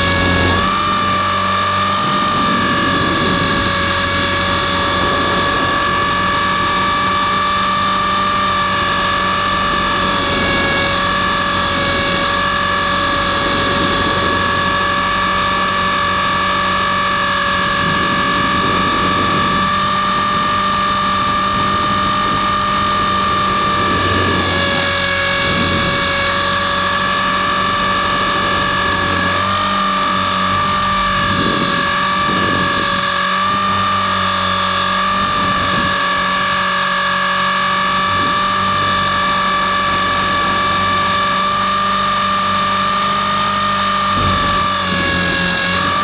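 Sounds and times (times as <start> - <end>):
motor and gear whine: 0.0 - 46.0
rotor rushing: 0.0 - 46.0.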